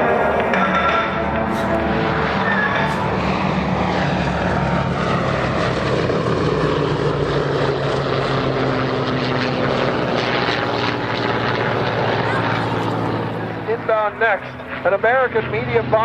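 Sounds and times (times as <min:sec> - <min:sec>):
piston aircraft engines droning: 0:00.0 - 0:16.0.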